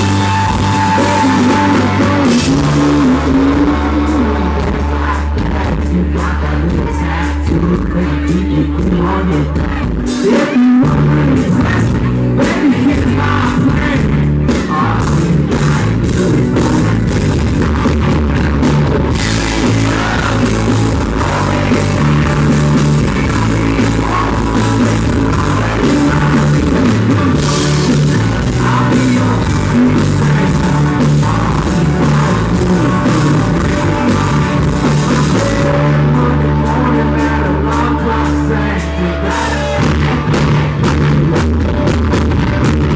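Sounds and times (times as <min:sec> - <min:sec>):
person singing: 0:00.0 - 0:41.7
bass: 0:00.0 - 0:42.9
drums: 0:00.0 - 0:42.9
electric guitar: 0:00.0 - 0:42.9.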